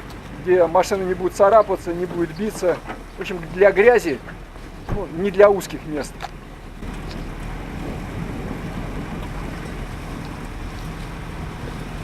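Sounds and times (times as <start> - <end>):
road noise: 0.0 - 12.0
vehicle engine hum: 0.0 - 12.0
wind: 0.0 - 12.0.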